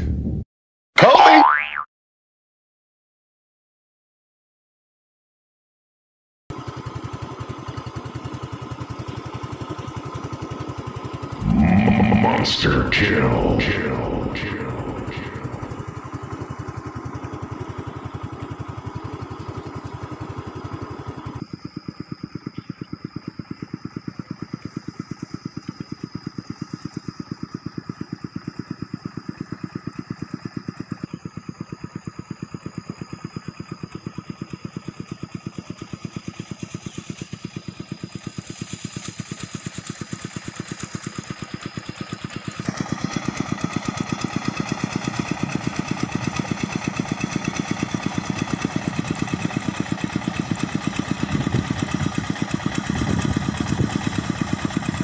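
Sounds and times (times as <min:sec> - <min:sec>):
small engine running: 0:06.5 - 0:12.3, 0:14.0 - 0:55.0.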